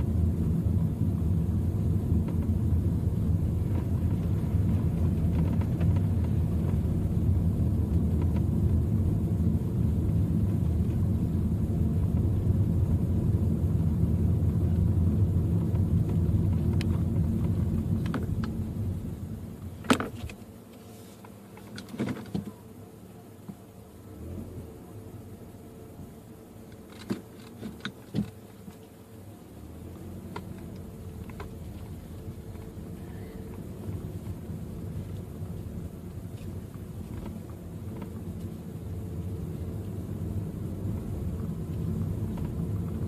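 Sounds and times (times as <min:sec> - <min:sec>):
car road noise rumble: 0:00.0 - 0:43.0.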